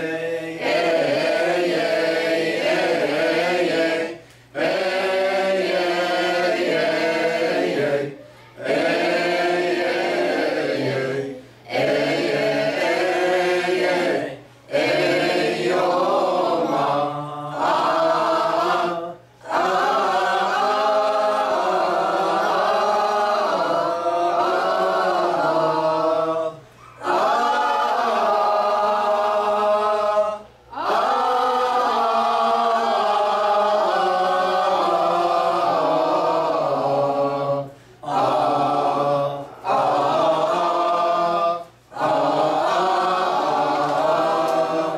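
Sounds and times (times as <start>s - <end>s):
group chanting a hymn: 0.0s - 44.9s.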